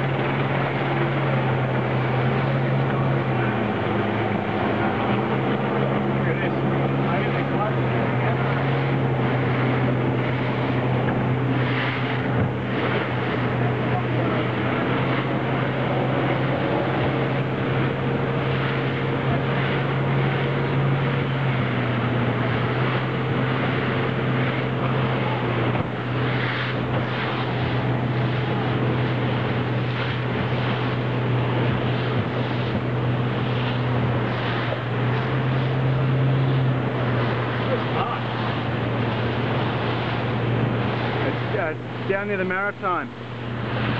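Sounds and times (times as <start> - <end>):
boat motor droning: 0.0 - 43.9
spray slapping hull: 0.0 - 43.9
wind and water rushing: 0.0 - 43.9.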